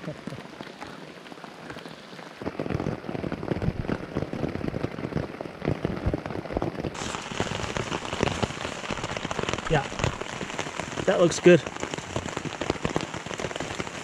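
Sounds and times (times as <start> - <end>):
rain pattering on fabric: 0.0 - 14.0.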